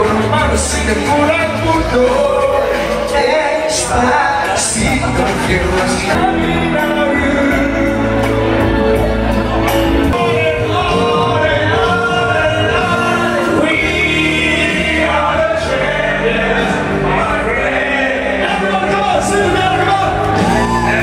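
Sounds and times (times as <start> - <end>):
music with singing: 0.0 - 21.0.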